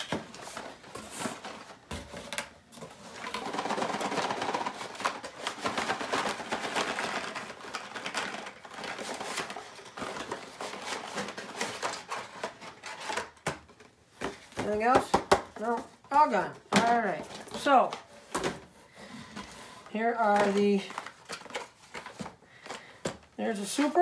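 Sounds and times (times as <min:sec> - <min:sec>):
plastic packaging rustling and clicking: 0:00.0 - 0:24.0.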